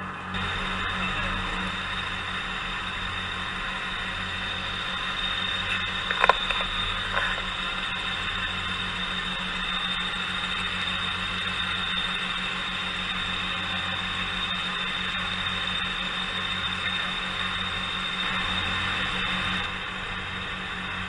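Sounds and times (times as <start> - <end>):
helicopter engine and rotor drone: 0.0 - 21.0
high whine: 0.0 - 21.0.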